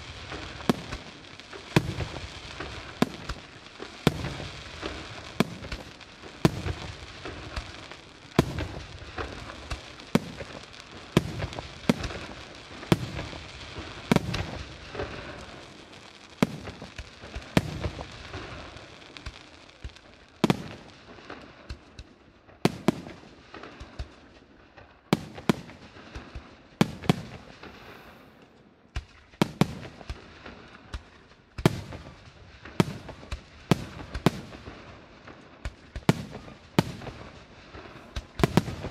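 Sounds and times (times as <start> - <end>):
crackling firework sparks: 0.0 - 38.9.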